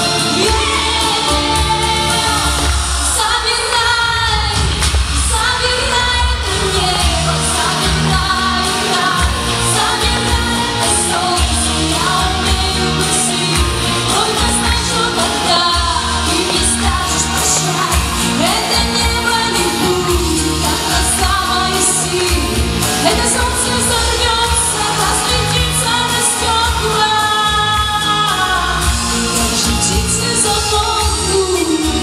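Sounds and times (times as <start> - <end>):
backing music with steady beat: 0.0 - 32.0
woman singing into microphone: 0.0 - 32.0.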